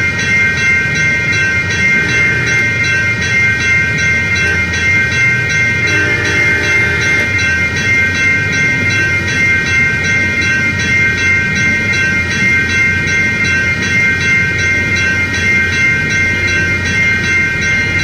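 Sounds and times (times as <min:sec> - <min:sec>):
crossing bell ringing: 0:00.0 - 0:18.0
passing train rumble: 0:00.0 - 0:18.0.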